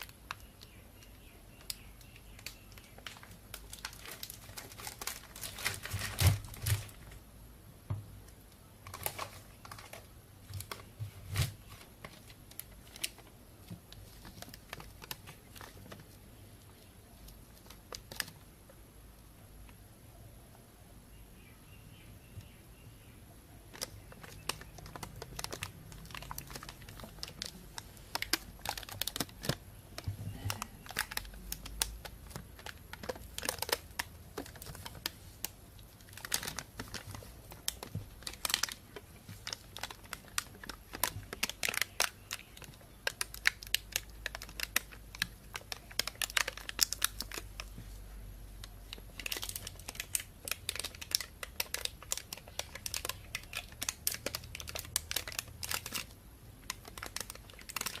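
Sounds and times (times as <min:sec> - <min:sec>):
plastic bag crinkling: 0:00.0 - 0:07.2, 0:08.8 - 0:18.5, 0:23.7 - 0:58.0.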